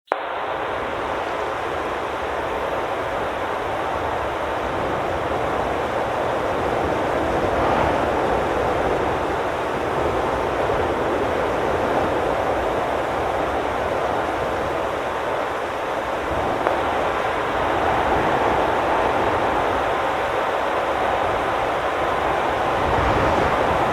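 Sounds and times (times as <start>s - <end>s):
dull static-like noise: 0.1s - 23.9s.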